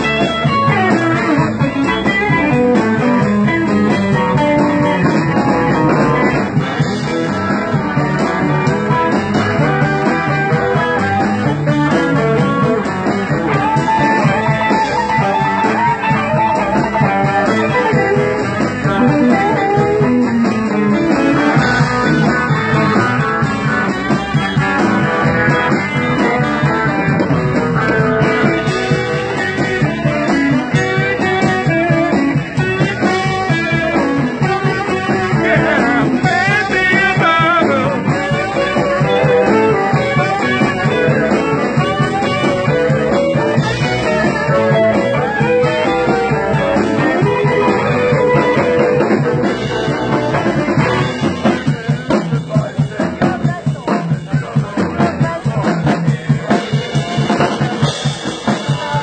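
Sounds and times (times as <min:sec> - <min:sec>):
blues band playing: 0:00.0 - 0:59.0
electric guitar lead: 0:00.0 - 0:59.0.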